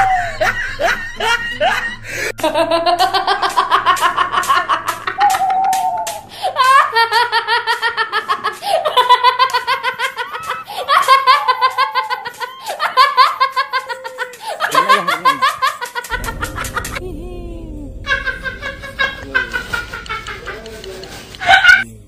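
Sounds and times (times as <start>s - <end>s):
shrill cackling laugh: 0.0s - 5.8s, 6.4s - 17.0s, 18.1s - 21.8s.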